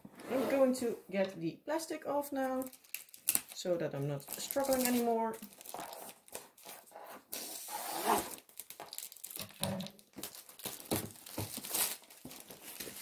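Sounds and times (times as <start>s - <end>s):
plastic wrapping tearing and crackling: 2.5s - 13.0s.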